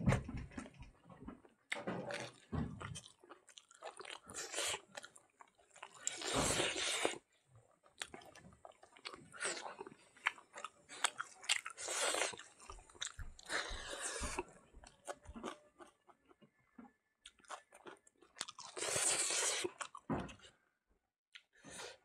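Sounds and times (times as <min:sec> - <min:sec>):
food crunching: 0:01.7 - 0:07.2, 0:07.8 - 0:20.1
wet chewing: 0:01.7 - 0:20.1.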